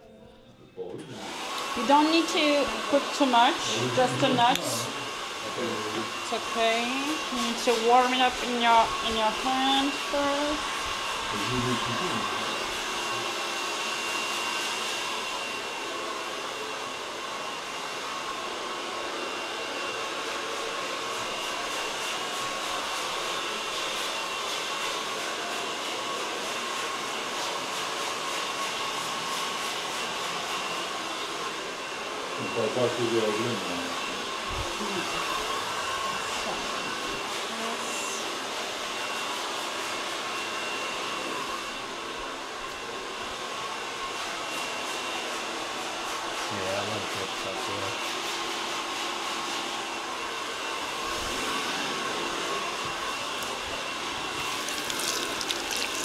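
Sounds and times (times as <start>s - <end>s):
hair dryer blowing: 1.0s - 56.0s.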